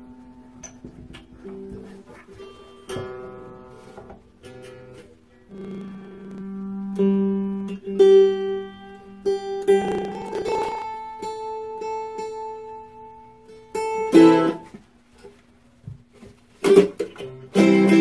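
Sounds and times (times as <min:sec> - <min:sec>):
plucked strings ringing: 0:00.0 - 0:14.7.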